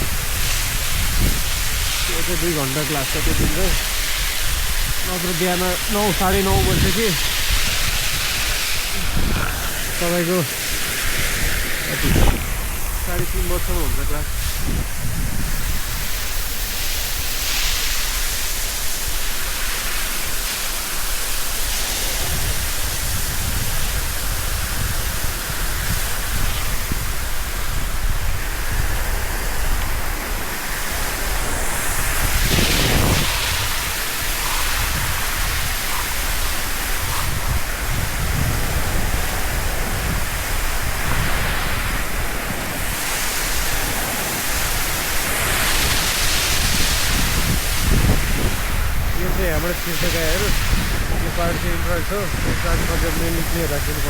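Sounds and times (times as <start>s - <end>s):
hose water jetting onto concrete: 0.0s - 54.0s.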